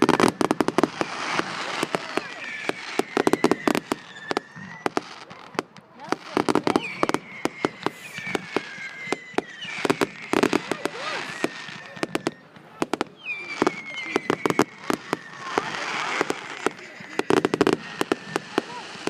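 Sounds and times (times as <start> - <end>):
firework bangs crackling: 0.0 - 19.0
firework whistling: 0.0 - 19.0.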